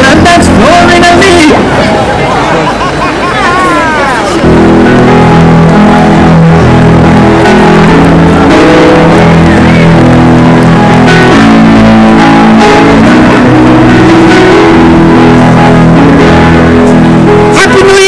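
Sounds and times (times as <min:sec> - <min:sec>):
loud guitar music: 0:00.0 - 0:02.8, 0:03.5 - 0:18.0.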